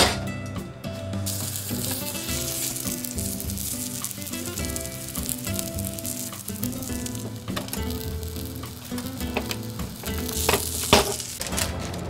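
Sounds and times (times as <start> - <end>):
soft background music: 0.0 - 12.0
sandwiches sizzling: 1.3 - 11.8.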